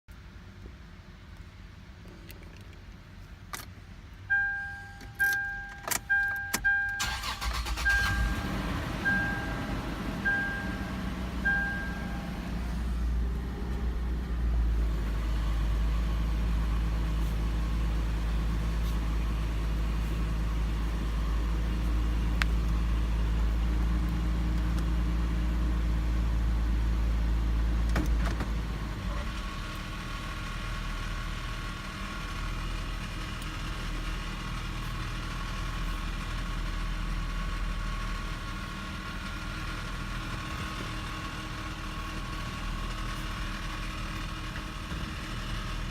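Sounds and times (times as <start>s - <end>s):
car engine idling: 4.3s - 45.9s.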